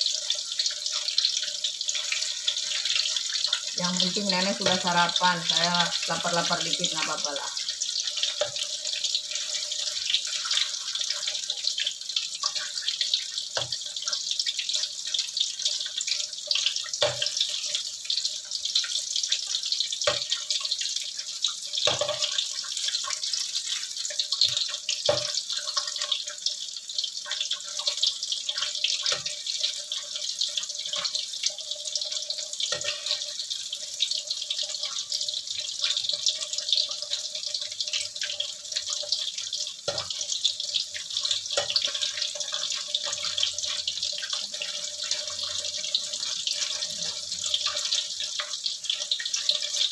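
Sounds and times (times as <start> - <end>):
fritters sizzling in hot oil: 0.0 - 49.9.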